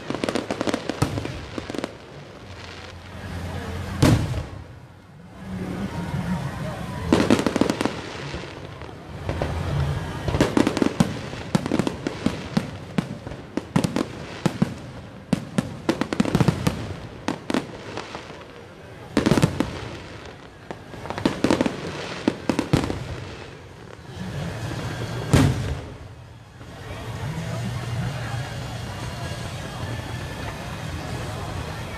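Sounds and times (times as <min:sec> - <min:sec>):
fireworks cracking and banging: 0:00.0 - 0:31.9.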